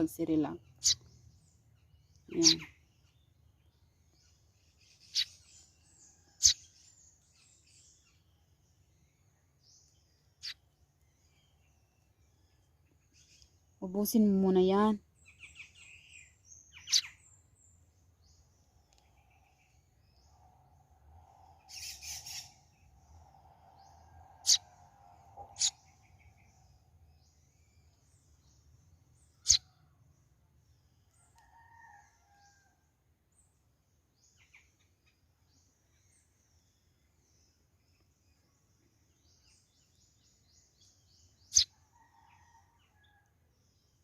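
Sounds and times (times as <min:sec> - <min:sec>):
sparrow chirping: 0:00.0 - 0:20.5, 0:21.4 - 0:29.9, 0:34.2 - 0:41.8.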